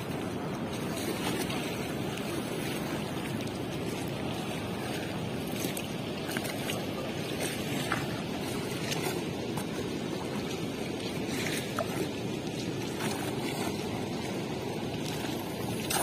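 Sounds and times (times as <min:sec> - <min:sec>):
small waves lapping on shore: 0:00.0 - 0:16.0.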